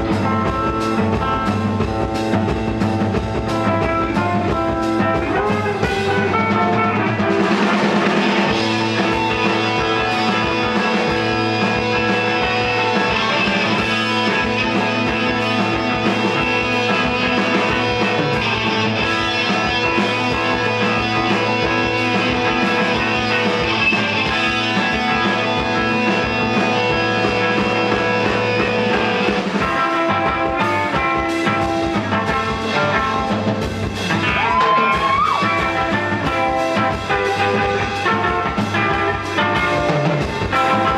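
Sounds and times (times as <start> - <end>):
electric guitar bend: 0.0 - 40.9
rock band playing: 0.0 - 40.9.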